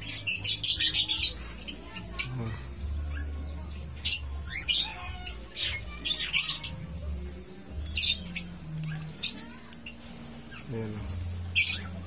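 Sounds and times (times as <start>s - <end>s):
caged birds chirping and squawking: 0.0s - 12.0s.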